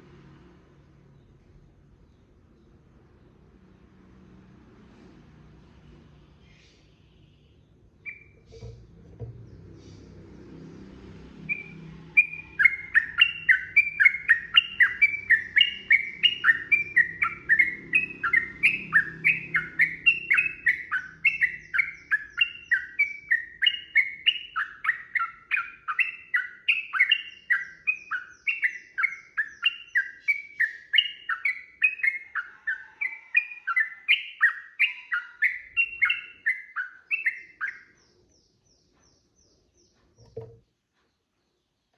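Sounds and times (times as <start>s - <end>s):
bird singing rapid notes: 6.4s - 10.2s, 11.4s - 41.9s.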